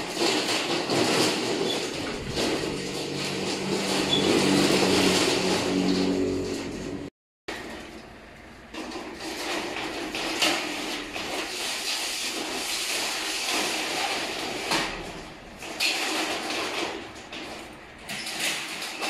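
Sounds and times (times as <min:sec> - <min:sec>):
metal roll-up door scraping and rattling: 0:00.0 - 0:19.0.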